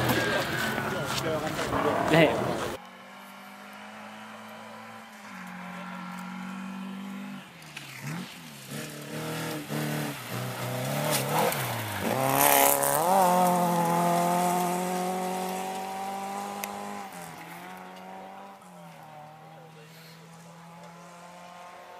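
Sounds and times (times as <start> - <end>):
rally car engine passing: 0.0 - 21.9.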